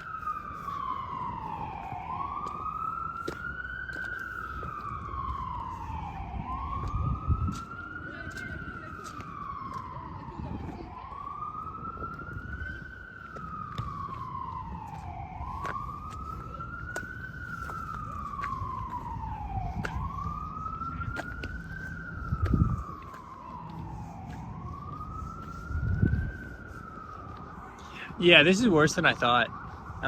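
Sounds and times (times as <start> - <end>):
emergency siren wailing: 0.0 - 30.0.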